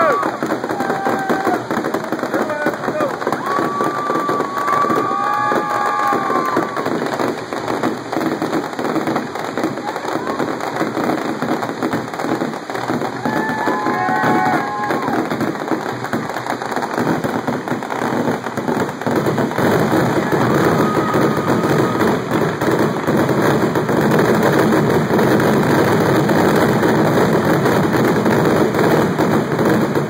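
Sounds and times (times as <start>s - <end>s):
fireworks popping and banging: 0.0s - 30.0s.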